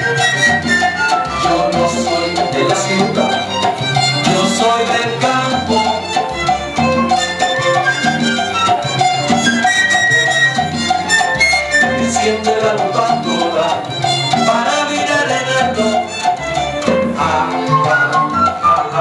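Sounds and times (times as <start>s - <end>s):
salsa music: 0.0s - 19.0s.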